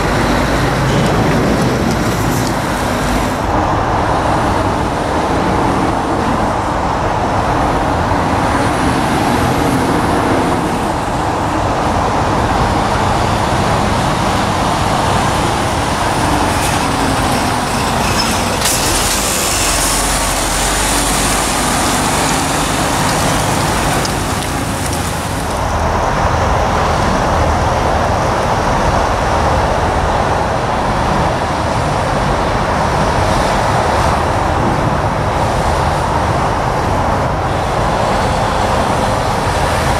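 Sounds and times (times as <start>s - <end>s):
lorry diesel engines running: 0.0s - 39.9s
traffic rumble: 0.0s - 39.9s.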